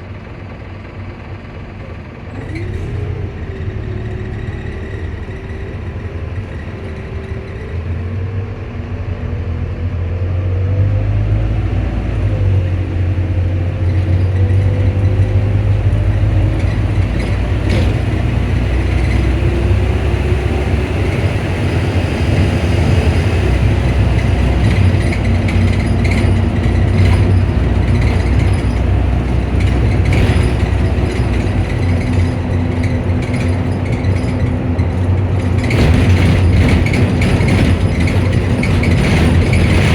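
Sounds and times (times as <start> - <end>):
bus engine rumbling: 0.0 - 39.9.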